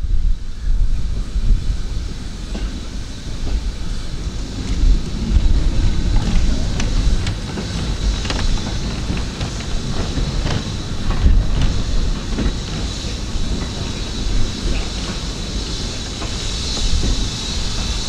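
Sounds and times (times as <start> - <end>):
train rumbling on track: 0.0 - 18.0
wheels clicking over rail joints: 2.5 - 18.0.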